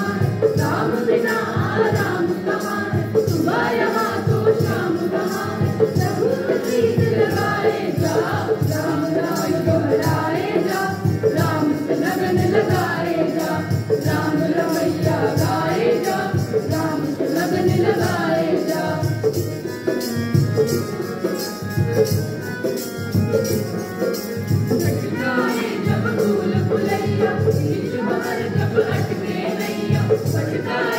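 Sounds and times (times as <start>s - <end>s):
group singing devotional song: 0.0s - 20.0s, 24.0s - 30.9s
steady percussion: 0.0s - 30.9s.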